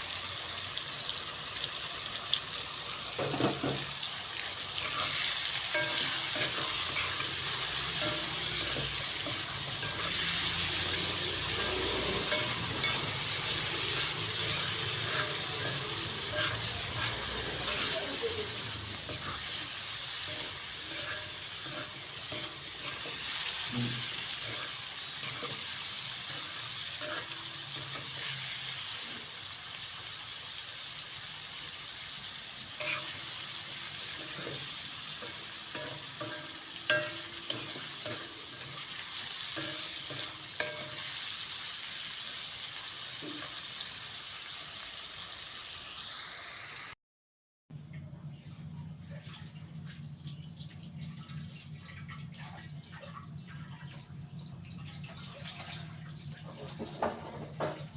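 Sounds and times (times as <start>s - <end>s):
food sizzling in a frying pan: 0.0s - 47.0s, 53.4s - 57.9s.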